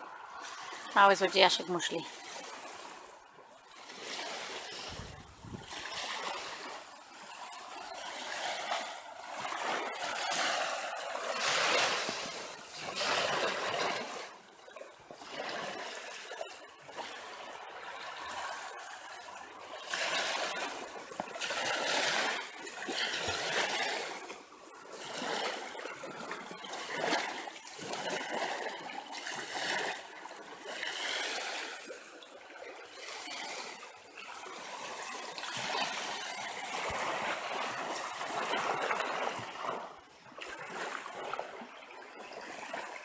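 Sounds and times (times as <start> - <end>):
small waves on sandy beach: 0.0 - 43.0.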